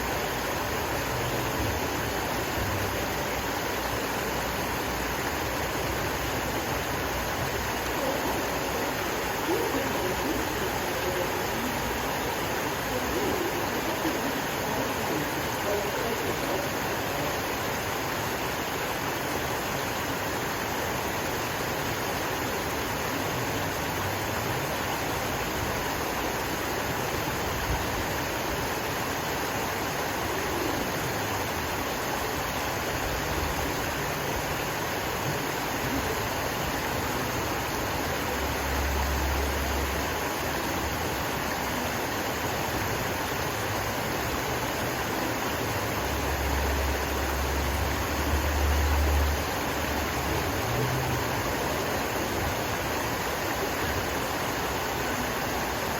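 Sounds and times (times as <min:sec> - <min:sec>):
water gushing over rocks: 0:00.0 - 0:55.9.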